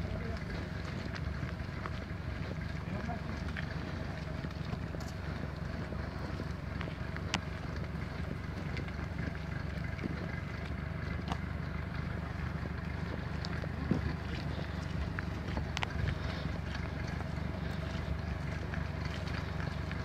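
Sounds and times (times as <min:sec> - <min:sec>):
cattle hooves clicking on asphalt: 0:00.0 - 0:20.0
tractor engine rumbling: 0:00.0 - 0:20.0.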